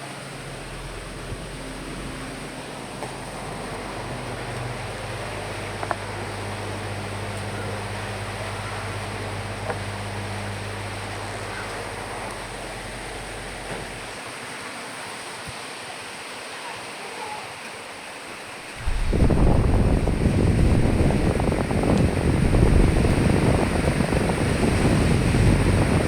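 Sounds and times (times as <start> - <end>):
low wind rumble: 0.0 - 14.2, 18.8 - 26.0
steady rain hiss: 0.0 - 26.0
raindrops ticking: 0.2 - 14.2, 18.8 - 26.0.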